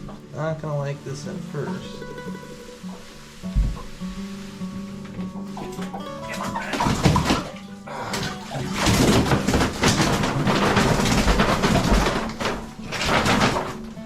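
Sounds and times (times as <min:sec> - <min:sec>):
acoustic guitar music: 0:00.0 - 0:14.0
water splashing in a bucket: 0:00.0 - 0:14.0.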